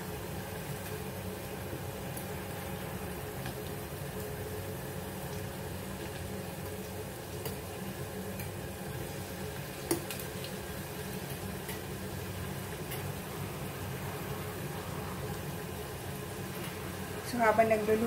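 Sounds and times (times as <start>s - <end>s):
potatoes sizzling in hot oil: 0.0s - 18.0s.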